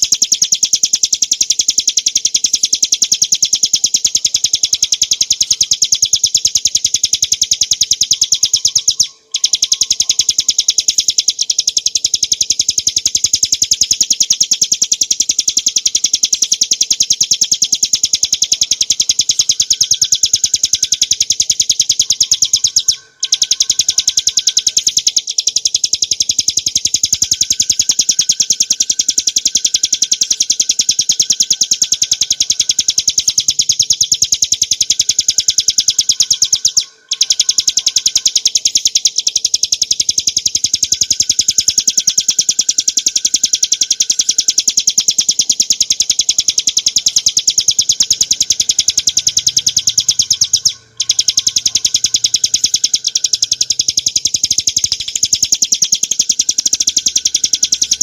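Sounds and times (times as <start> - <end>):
bird singing fast rattling trill: 0.0 - 58.0.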